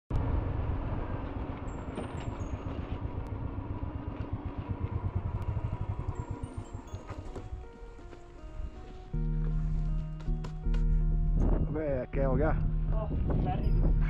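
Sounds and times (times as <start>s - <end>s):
motorcycle engine idling: 0.2s - 14.0s.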